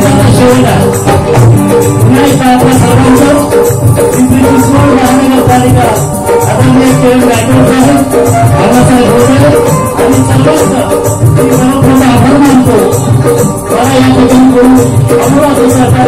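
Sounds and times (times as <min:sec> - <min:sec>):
drums beating: 0:00.0 - 0:16.0
stage band melody: 0:00.0 - 0:16.0.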